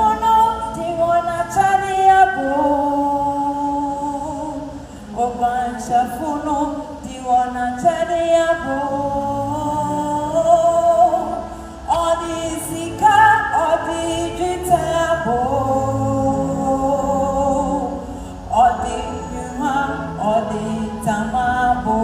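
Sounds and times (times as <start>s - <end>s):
person singing slow refrain: 0.0s - 22.0s.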